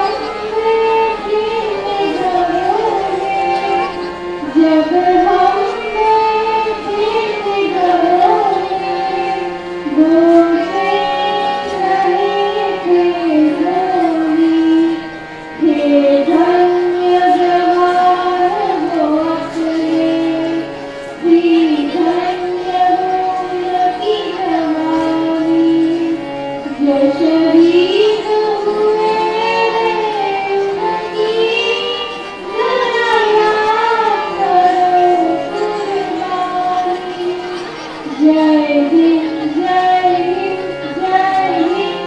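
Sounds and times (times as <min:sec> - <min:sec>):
girl singing: 0:00.0 - 0:42.0
harmonium drone: 0:00.0 - 0:42.0.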